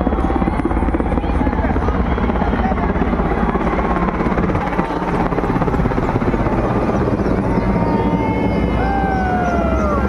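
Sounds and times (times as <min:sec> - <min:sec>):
helicopter rotor chopping: 0:00.0 - 0:10.0.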